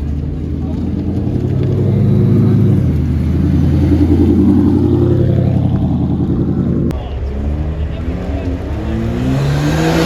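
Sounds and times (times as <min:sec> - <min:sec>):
car engine running loudly: 0:00.0 - 0:10.0.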